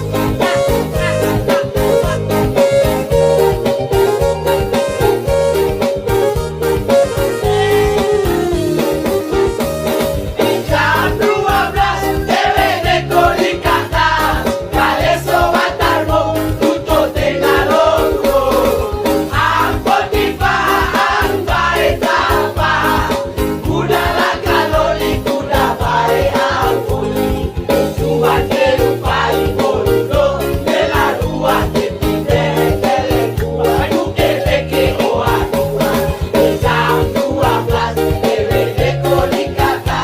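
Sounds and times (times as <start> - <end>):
music with steady beat: 0.0 - 40.0.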